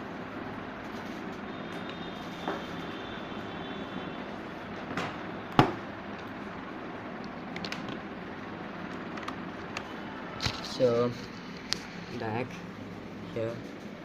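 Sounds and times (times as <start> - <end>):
room noise: 0.0 - 14.0.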